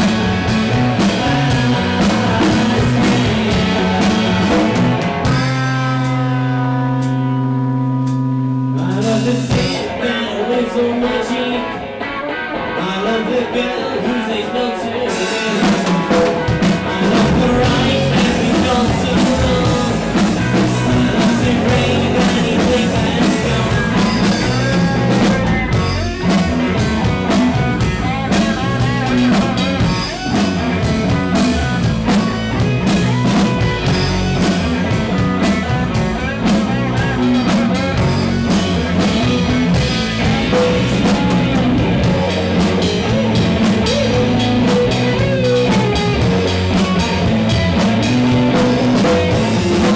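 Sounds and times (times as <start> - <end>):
drums and cymbals: 0.0 - 10.0, 15.1 - 49.9
electric bass: 0.0 - 49.9
electric guitar: 0.0 - 49.9.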